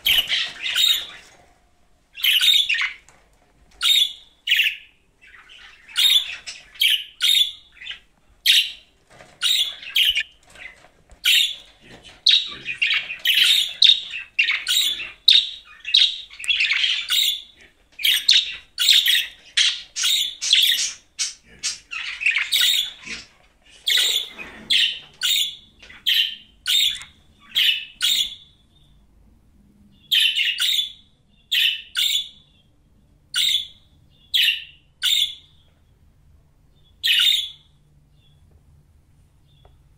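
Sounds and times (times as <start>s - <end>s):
budgerigars chirping: 0.0s - 1.3s, 2.2s - 3.1s, 3.8s - 29.0s, 30.0s - 32.7s, 33.3s - 35.7s, 36.8s - 38.4s.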